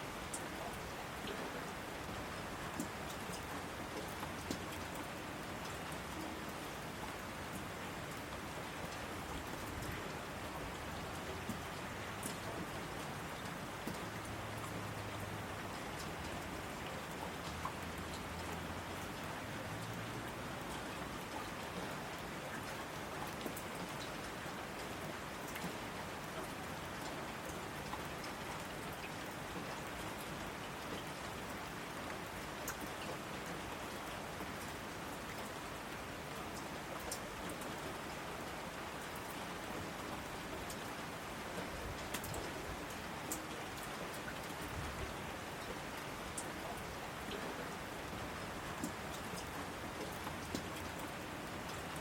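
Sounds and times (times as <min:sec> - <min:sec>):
rain falling: 0:00.0 - 0:52.0.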